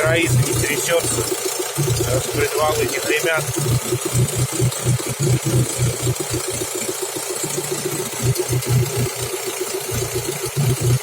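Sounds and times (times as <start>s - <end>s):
petrol engine running evenly: 0.0s - 11.0s.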